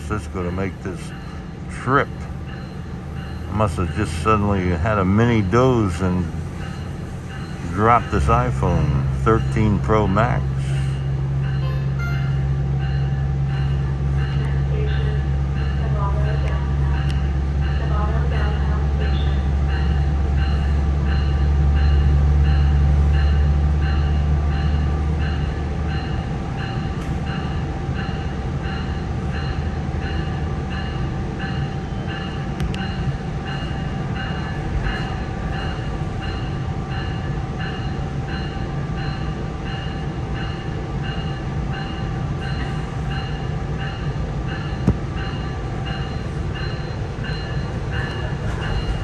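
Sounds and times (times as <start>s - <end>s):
train engine and wheels rumbling: 0.0s - 49.0s.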